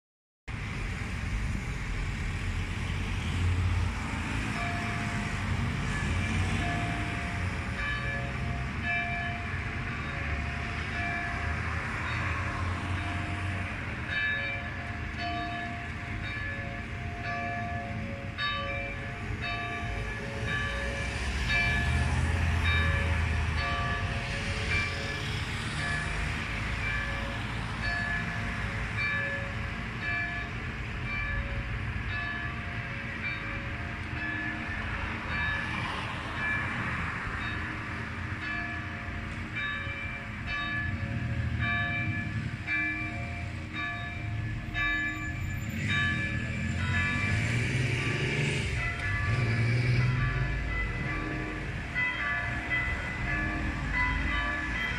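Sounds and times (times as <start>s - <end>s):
church bells pealing: 3.0s - 54.9s.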